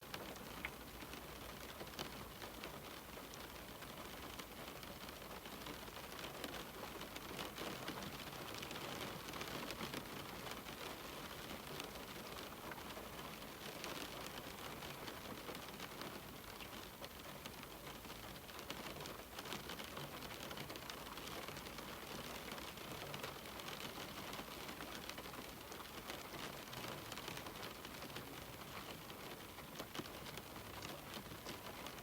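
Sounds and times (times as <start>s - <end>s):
rain pattering on a window: 0.0s - 32.0s.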